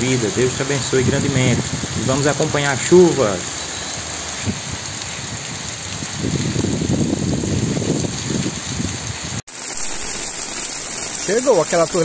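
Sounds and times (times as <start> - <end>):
water gushing from drain spouts: 0.0 - 8.9, 9.6 - 12.0
heavy rain falling: 0.0 - 12.0.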